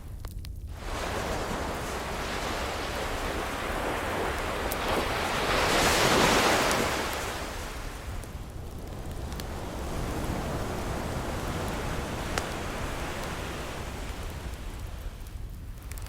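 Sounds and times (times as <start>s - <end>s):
faint wood fire crackles: 0.0s - 16.0s
ocean wave breaking: 0.7s - 15.2s.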